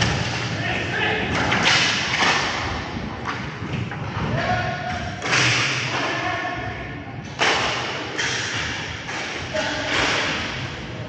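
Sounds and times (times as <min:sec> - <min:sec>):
players' voices: 0:00.0 - 0:11.0.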